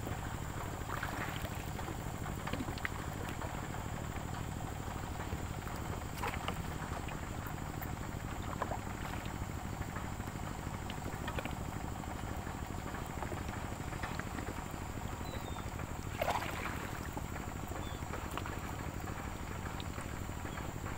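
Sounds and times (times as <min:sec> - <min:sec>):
water sloshing around raft: 0:00.0 - 0:20.9
water splashes: 0:00.0 - 0:20.9.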